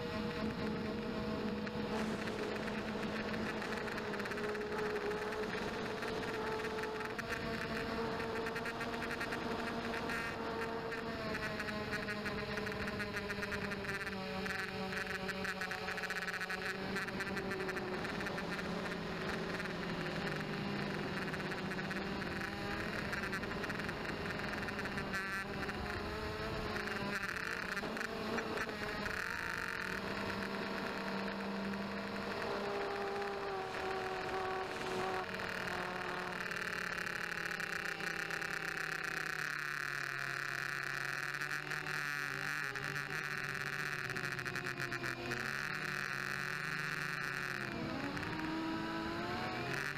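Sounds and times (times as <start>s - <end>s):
quadcopter motors buzzing: 0.0s - 49.9s.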